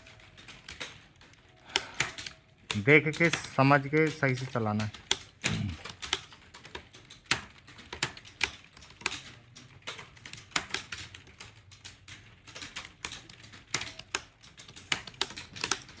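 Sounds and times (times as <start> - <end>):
fast typing on keyboard: 0.0 - 16.0.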